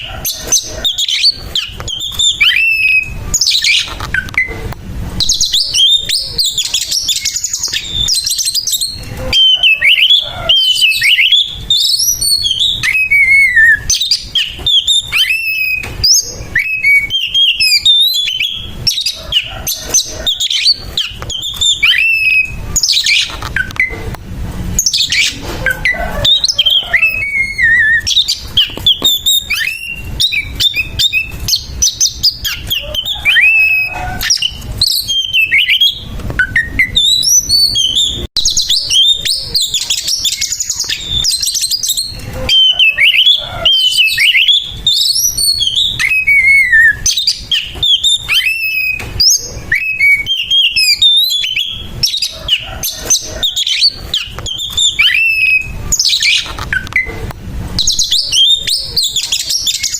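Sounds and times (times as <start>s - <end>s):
bird singing whistled phrases: 0.0s - 4.6s, 5.2s - 24.0s, 24.8s - 57.2s, 57.8s - 59.9s.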